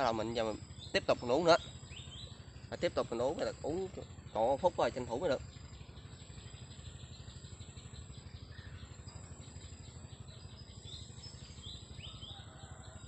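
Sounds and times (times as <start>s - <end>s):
pulsing high bird call: 0.0s - 13.0s.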